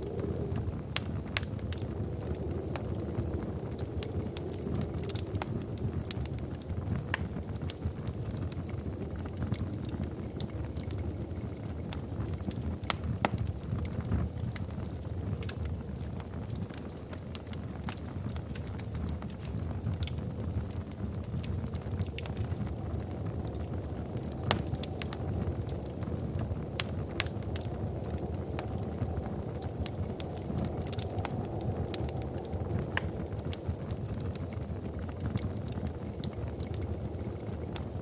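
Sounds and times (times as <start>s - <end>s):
fire crackling and popping: 0.0s - 38.0s
low roar of flames: 0.0s - 38.0s.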